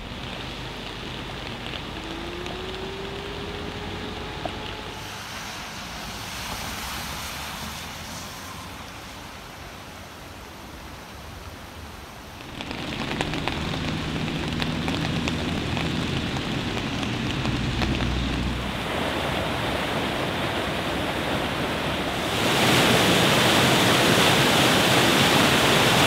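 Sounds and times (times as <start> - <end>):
heavy rain: 0.0 - 26.0
rushing floodwater: 0.0 - 26.0.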